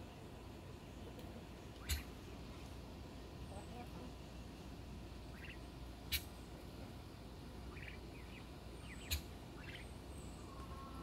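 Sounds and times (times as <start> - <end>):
young turkeys peeping: 0.0 - 11.0.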